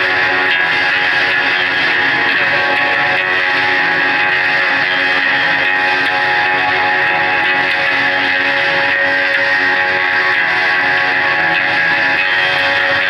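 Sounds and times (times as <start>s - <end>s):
live band electric guitar music: 0.0s - 13.0s.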